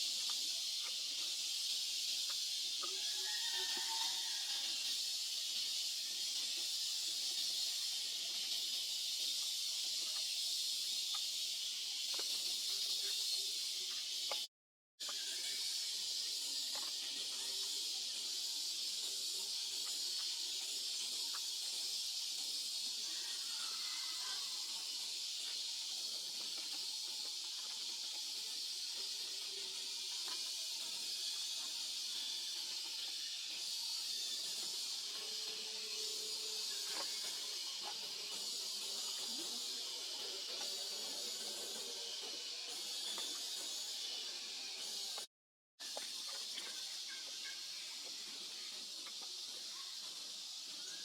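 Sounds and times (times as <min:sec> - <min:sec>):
high-pitched hiss: 0:00.0 - 0:51.0.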